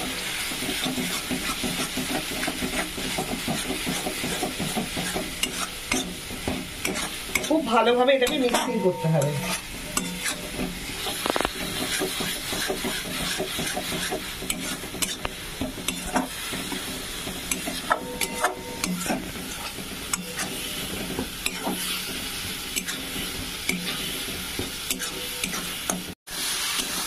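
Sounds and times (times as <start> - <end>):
metal spatula scraping a pan: 0.0 - 27.0
oil sizzling: 0.0 - 27.0.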